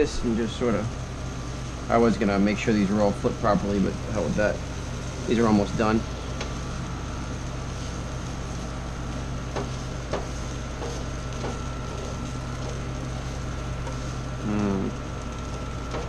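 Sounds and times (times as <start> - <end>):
appliance fan humming: 0.0 - 16.0.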